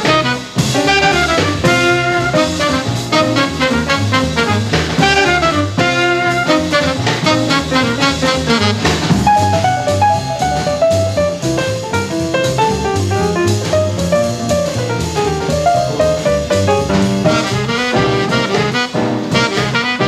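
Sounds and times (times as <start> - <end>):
bebop jazz band: 0.0 - 20.0.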